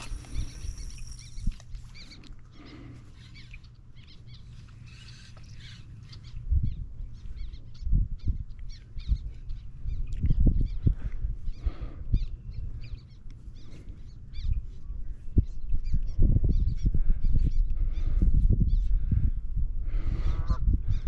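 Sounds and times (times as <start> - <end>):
small birds chirping: 0.0 - 19.2.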